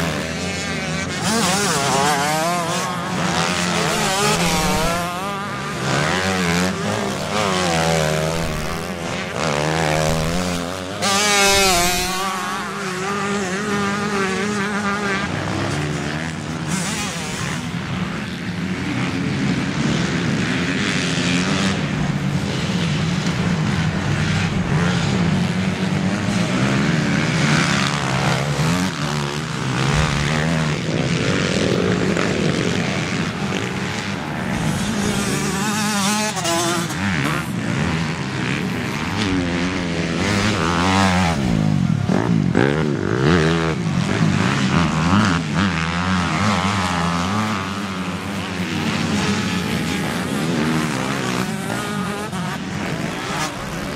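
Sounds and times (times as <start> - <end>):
motocross engines revving: 0.0 - 53.9.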